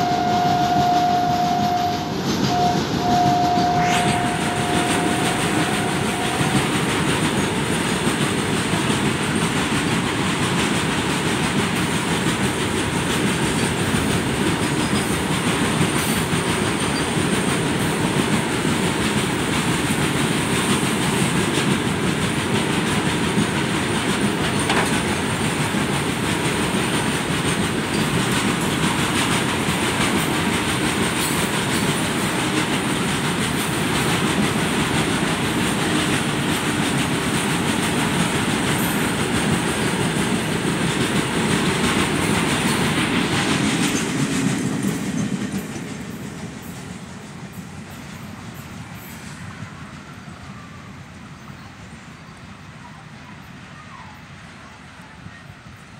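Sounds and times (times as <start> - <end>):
freight train wheels on rails: 0.0 - 55.9.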